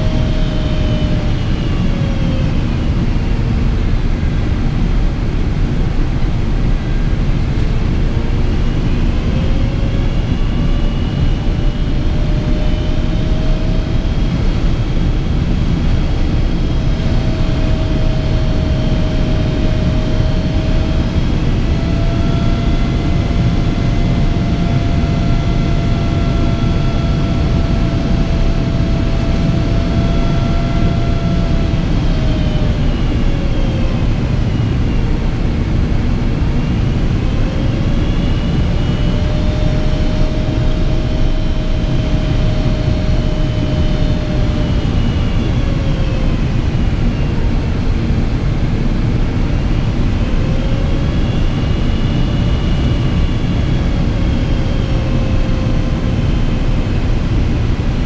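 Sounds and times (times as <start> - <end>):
airplane cabin rumble: 0.0 - 58.0
jet engine whine: 0.0 - 58.0.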